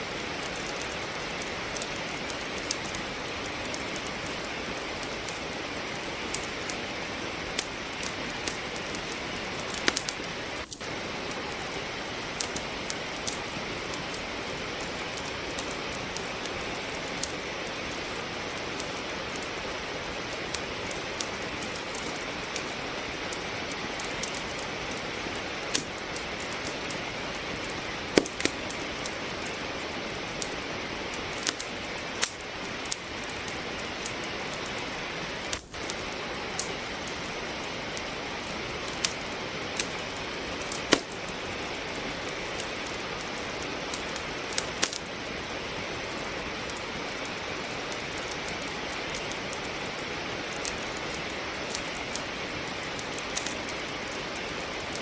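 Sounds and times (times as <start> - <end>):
rainfall hiss: 0.0 - 55.0
wood fire crackling and popping: 0.0 - 55.0.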